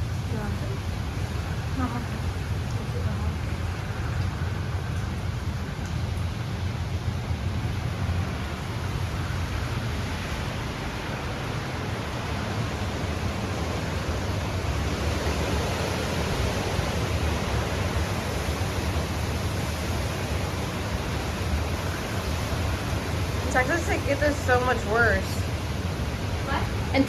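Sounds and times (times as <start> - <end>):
strong wind gusting on microphone: 0.0 - 27.0.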